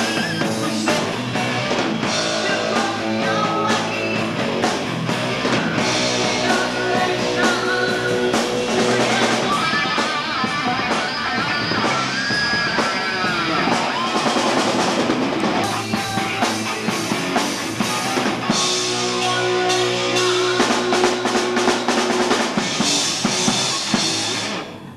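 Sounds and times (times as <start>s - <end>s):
live rock band playing loud: 0.0s - 24.9s.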